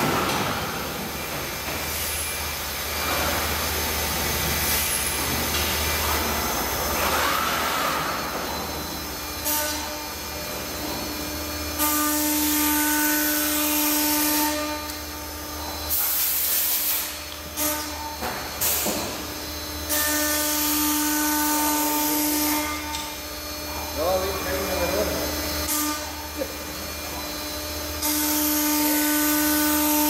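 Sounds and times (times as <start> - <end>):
router spindle whining and hissing: 0.0 - 30.0.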